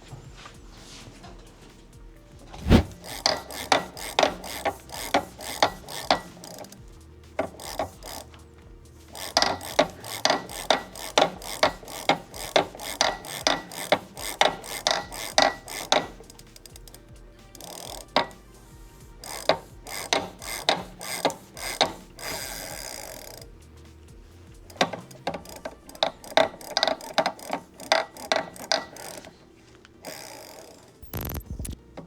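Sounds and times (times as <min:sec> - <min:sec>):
ratchet wrench clicking: 0:02.7 - 0:32.0.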